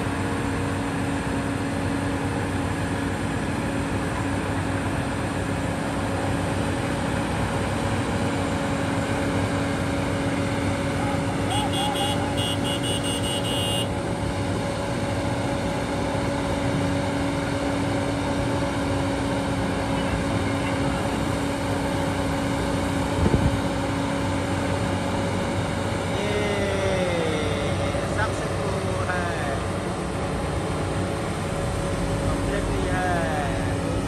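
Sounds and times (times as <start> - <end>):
excavator diesel engine droning: 0.0 - 34.0.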